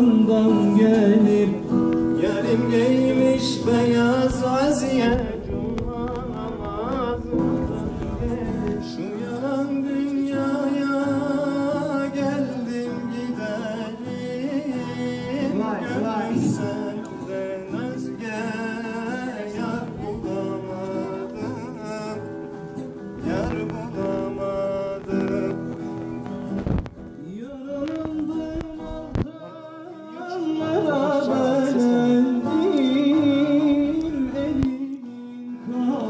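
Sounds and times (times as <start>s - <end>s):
folk singing: 0.0s - 36.0s
plucked strings: 0.0s - 36.0s.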